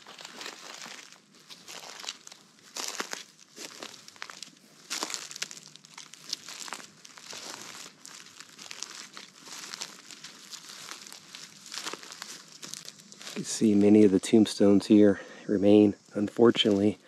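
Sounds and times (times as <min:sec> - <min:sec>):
footsteps on dry leaves: 0:00.0 - 0:14.2.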